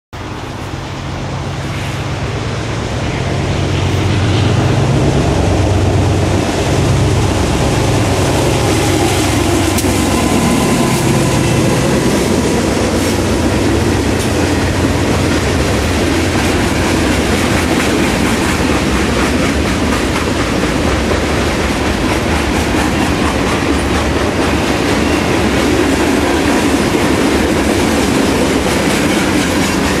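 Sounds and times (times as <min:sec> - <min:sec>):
locomotive engine passing: 0:00.2 - 0:30.0
train wheels clicking on rail joints: 0:03.1 - 0:30.0.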